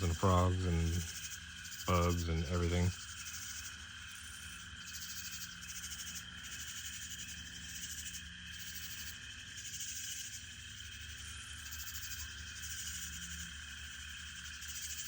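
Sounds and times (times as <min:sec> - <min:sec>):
frogs trilling: 0:00.0 - 0:15.0
insects buzzing: 0:00.0 - 0:15.0.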